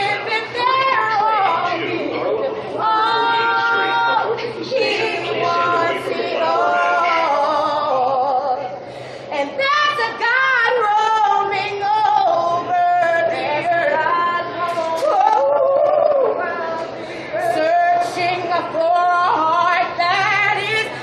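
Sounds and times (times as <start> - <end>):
women singing gospel: 0.0 - 21.0.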